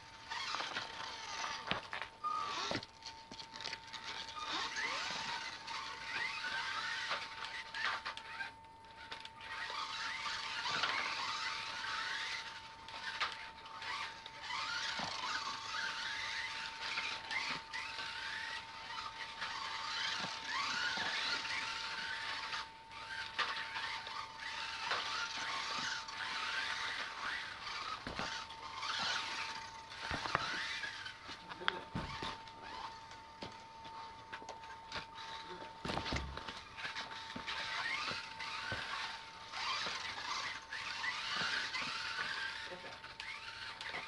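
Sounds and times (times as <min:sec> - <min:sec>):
small electric motors whining: 0:00.0 - 0:44.0.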